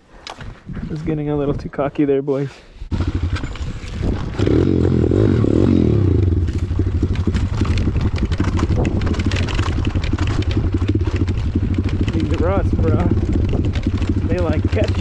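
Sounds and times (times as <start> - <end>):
bike scraping and rattling: 2.9 - 15.0
motorbike engine revving: 2.9 - 15.0.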